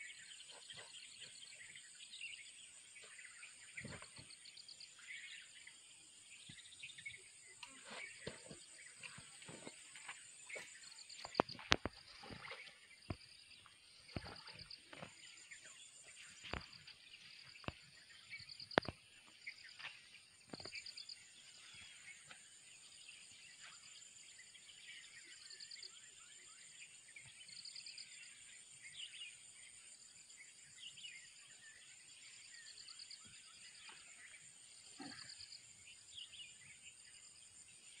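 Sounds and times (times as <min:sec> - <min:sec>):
faint bird chirps: 0:00.0 - 0:38.0.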